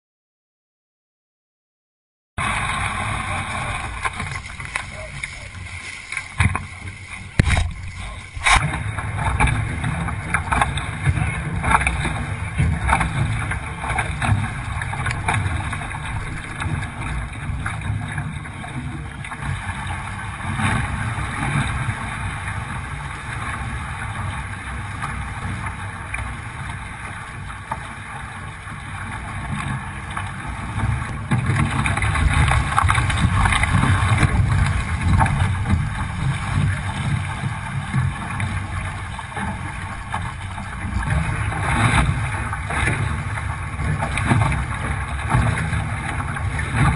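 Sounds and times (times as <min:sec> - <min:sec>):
water rushing and splashing: 0:02.4 - 0:46.9
wind buffeting microphone: 0:02.4 - 0:46.9.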